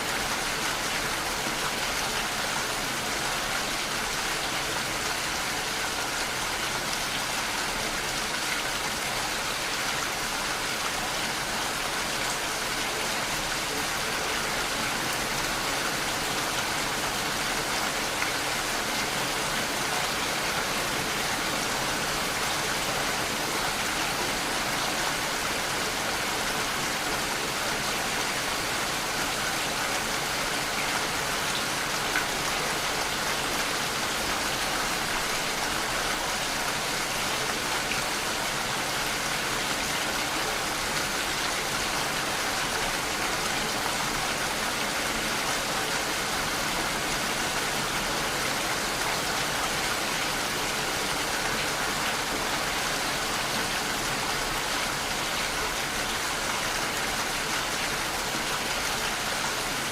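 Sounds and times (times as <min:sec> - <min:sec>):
rain falling and pattering: 0:00.0 - 0:59.9.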